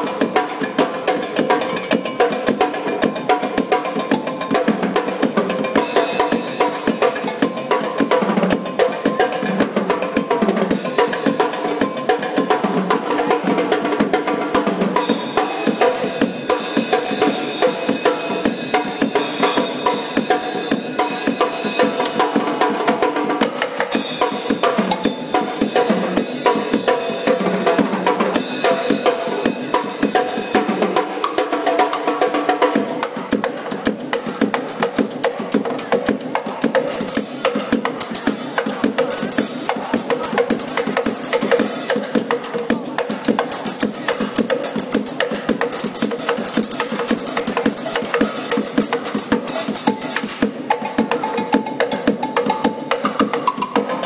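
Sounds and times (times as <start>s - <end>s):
drum kit fast beat: 0.0s - 54.0s.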